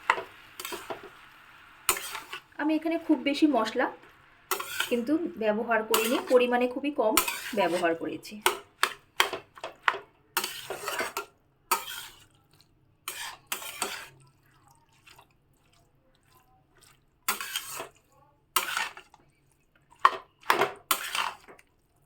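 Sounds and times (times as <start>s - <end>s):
spatula scraping in a pan: 0.0s - 22.0s.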